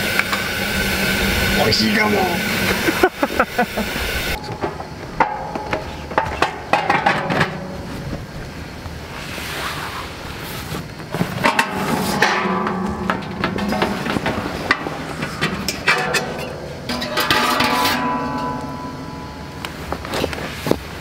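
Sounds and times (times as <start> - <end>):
metal fire pit clanking: 0.0 - 8.5, 11.0 - 21.0.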